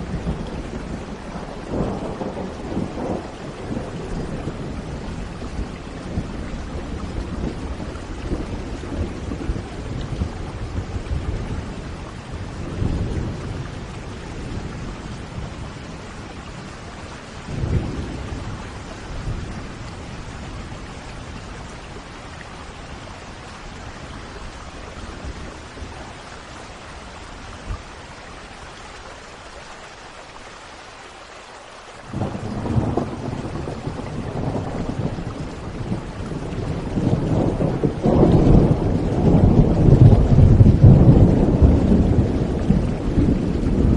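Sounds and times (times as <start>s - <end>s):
thunder rumbling: 0.0s - 26.4s, 32.1s - 43.9s
heavy rain: 0.0s - 43.9s.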